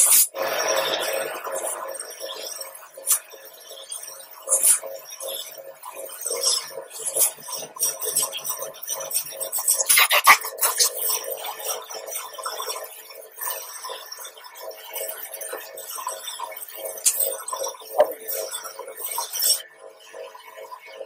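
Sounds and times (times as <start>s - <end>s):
water ticking on blades: 2.8s - 20.0s.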